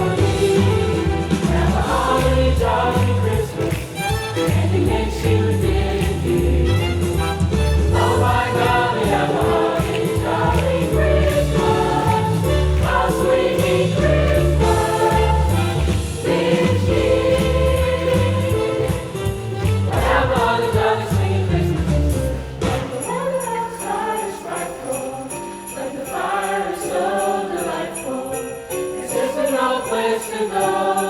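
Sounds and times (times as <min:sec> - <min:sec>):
choir singing a holiday song: 0:00.0 - 0:31.0
instrumental accompaniment: 0:00.0 - 0:31.0.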